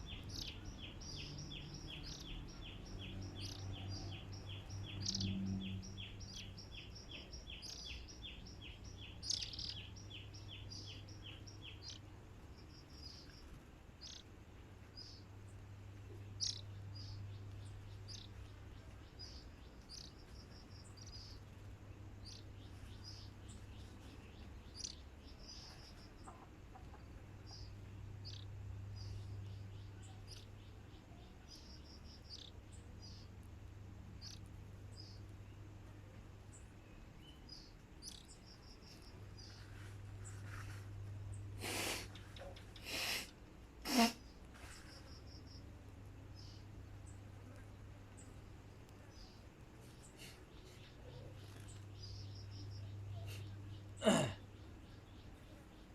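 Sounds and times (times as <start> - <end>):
bird chirps and trills: 0.0 - 33.4, 34.1 - 35.6, 36.5 - 55.9
faint low hum: 0.0 - 55.9.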